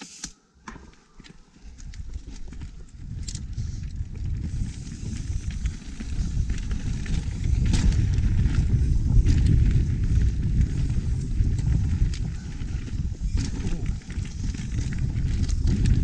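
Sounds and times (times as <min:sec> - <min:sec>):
bike clicks and rattles: 0:00.0 - 0:16.0
bike tyres on dirt and rock: 0:00.0 - 0:16.0
wind rumbling on microphone: 0:01.6 - 0:16.0.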